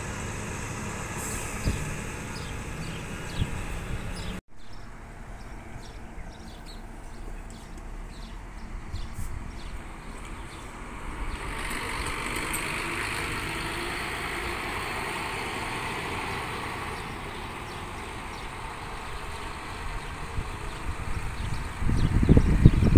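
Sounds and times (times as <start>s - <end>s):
bus diesel engine accelerating: 0.0s - 22.9s.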